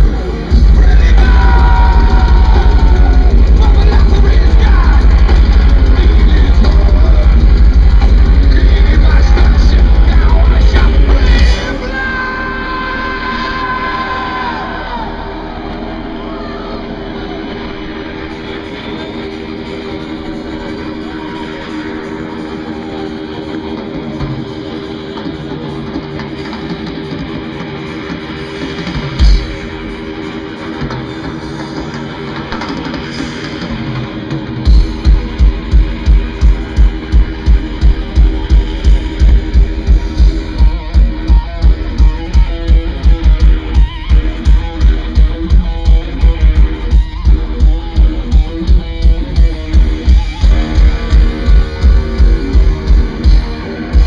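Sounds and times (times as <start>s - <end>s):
fast pounding drums: 0.0s - 16.1s, 17.0s - 54.0s
distorted electric guitars: 0.0s - 54.0s.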